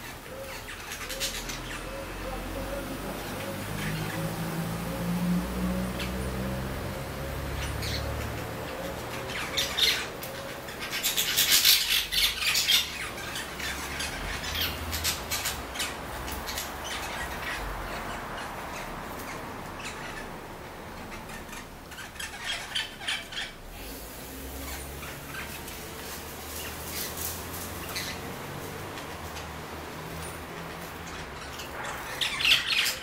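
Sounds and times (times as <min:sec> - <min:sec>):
parakeets squawking and chattering: 0:00.0 - 0:33.0.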